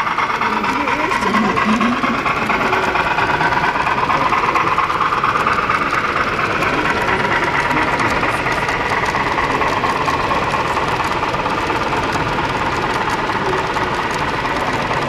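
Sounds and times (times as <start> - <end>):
model train engine sound: 0.0 - 15.0.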